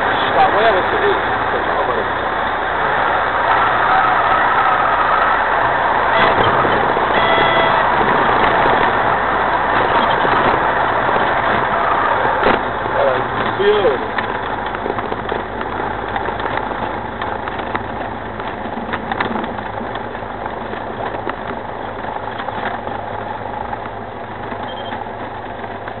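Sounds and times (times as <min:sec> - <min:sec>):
propeller airplane engine running: 0:00.0 - 0:26.0.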